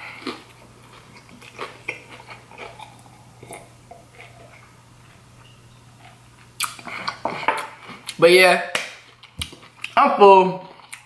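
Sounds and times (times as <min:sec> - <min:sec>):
person chewing crunchy food: 0:00.0 - 0:08.2, 0:09.0 - 0:10.0, 0:10.6 - 0:11.0
faint steady hum: 0:00.0 - 0:11.0.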